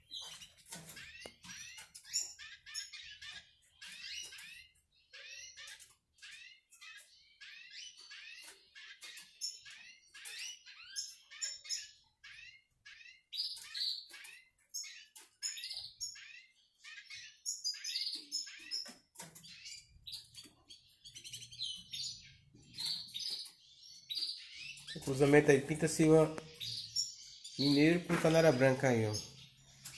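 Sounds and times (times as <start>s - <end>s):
finch singing twittering song: 0.0s - 29.9s.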